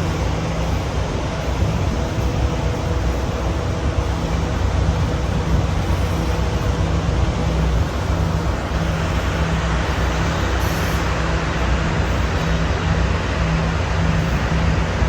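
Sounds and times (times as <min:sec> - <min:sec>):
train engine rumbling: 0:00.0 - 0:15.0.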